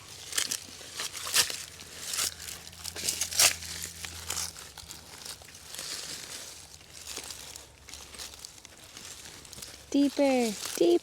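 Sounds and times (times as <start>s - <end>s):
digging and scraping soil: 0.0s - 11.0s.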